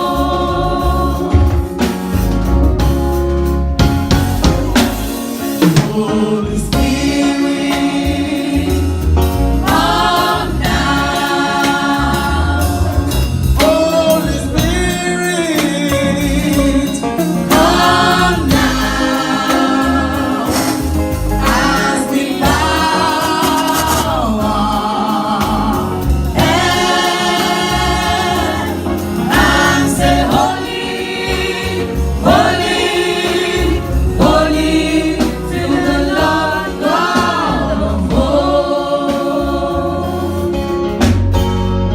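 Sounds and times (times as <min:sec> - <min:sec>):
choir singing: 0:00.0 - 0:01.9, 0:05.6 - 0:14.6, 0:17.5 - 0:40.7
drum and bass beat: 0:00.0 - 0:41.5.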